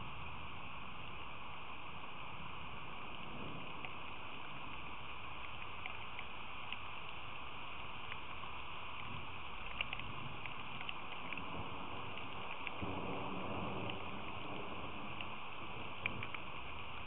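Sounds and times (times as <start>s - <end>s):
steady rain falling: 0.0s - 17.0s
faint ticks: 2.3s - 17.0s.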